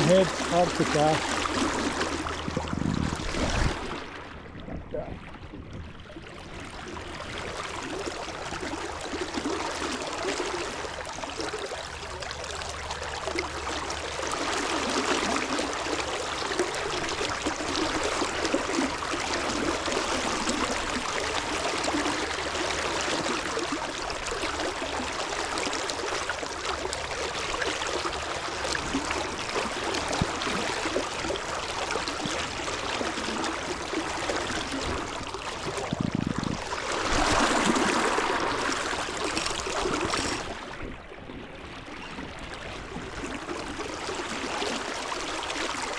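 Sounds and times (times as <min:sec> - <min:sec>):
flowing river water: 0:00.0 - 0:45.9.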